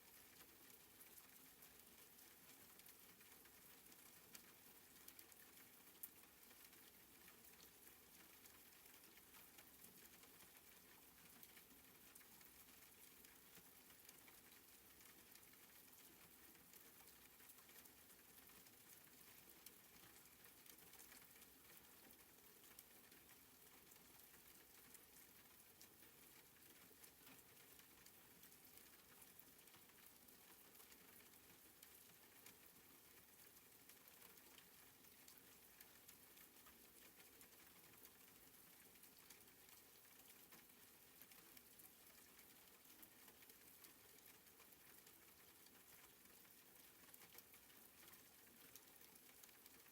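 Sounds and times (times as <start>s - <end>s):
soft rain falling: 0.0s - 49.9s.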